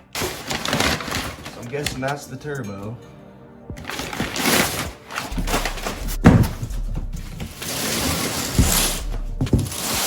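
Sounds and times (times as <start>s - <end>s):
packaging rustling: 0.0s - 2.2s, 3.8s - 10.0s.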